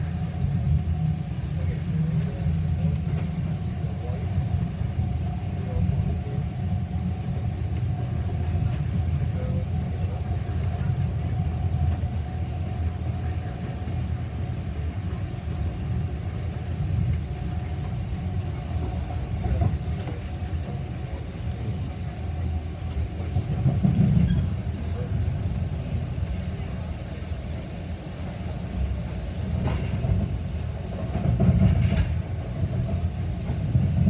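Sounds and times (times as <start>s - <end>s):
train low rumble: 0.0s - 34.0s.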